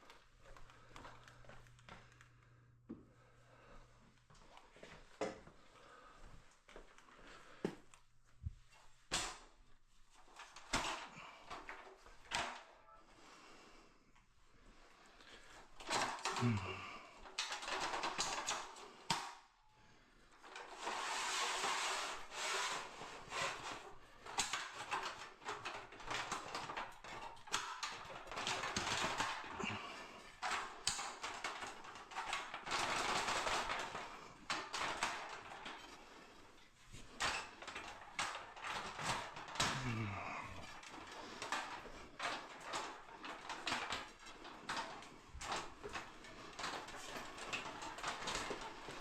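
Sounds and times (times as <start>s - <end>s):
rustling and scraping of tools: 0.0s - 49.0s.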